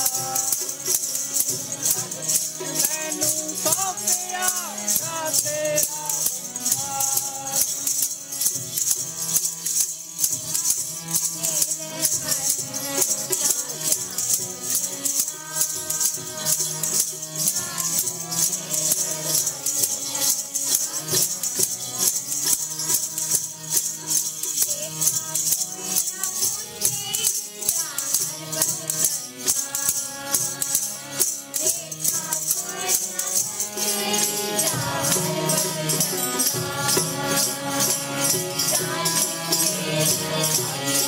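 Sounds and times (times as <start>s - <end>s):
jingling rattle: 0.0s - 41.0s
voices singing devotional music: 0.0s - 41.0s.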